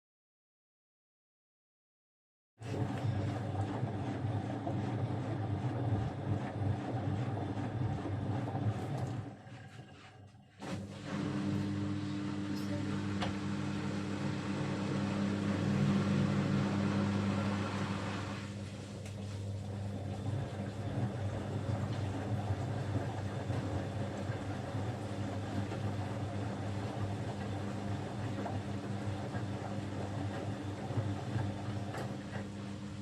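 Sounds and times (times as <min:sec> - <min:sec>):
washing machine motor hum: 0:02.6 - 0:33.0
washing machine rushing noise: 0:02.6 - 0:33.0.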